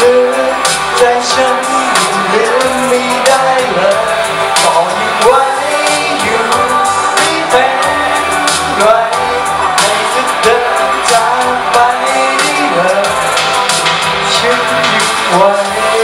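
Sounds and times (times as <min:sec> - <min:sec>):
backing track with steady beat: 0:00.0 - 0:16.0
man singing pop song: 0:00.0 - 0:16.0.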